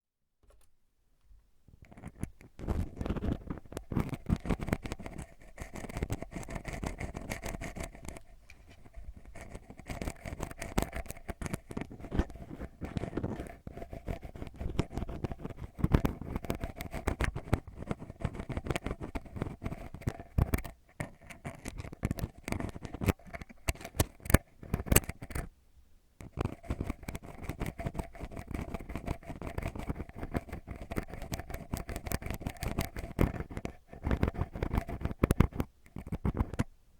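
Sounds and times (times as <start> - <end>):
ear pick scratching microphone: 1.8 - 25.5, 26.2 - 36.7.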